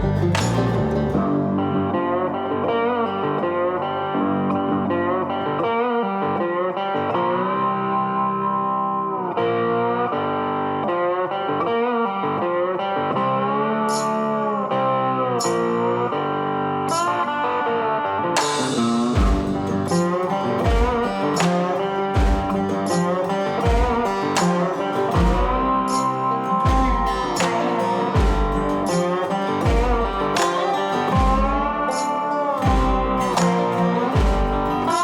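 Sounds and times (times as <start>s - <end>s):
electric guitar instrumental music: 0.0s - 35.0s.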